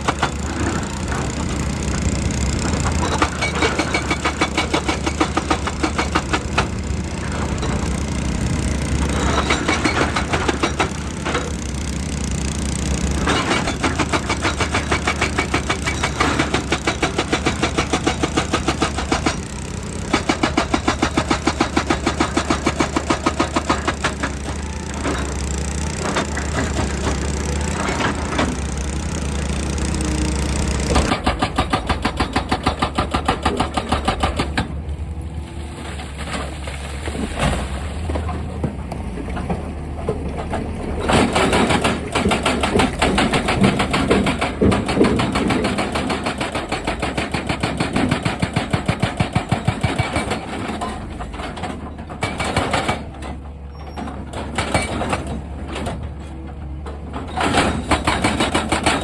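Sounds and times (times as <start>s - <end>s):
excavator engine under load: 0.0s - 59.0s.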